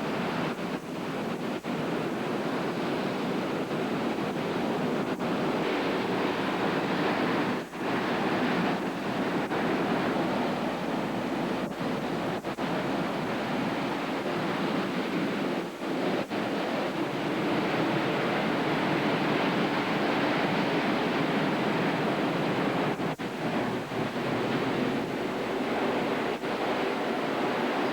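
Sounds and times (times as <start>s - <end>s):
roaring wind and surf: 0.0s - 27.9s
wind buffeting microphone: 0.0s - 27.9s.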